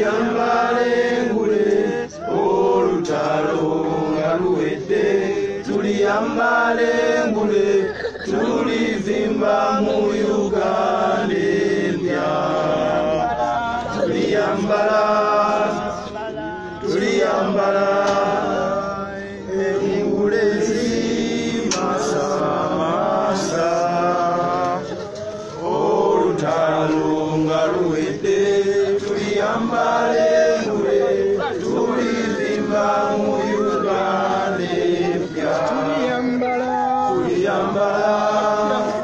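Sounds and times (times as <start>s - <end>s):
crowd singing a chant: 0.0s - 39.0s.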